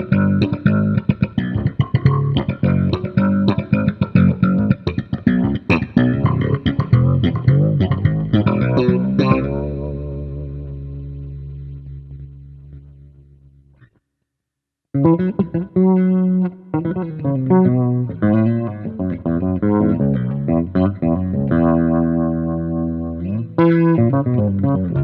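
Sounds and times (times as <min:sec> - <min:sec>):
electric bass guitar playing: 0:00.0 - 0:13.9, 0:15.0 - 0:25.0.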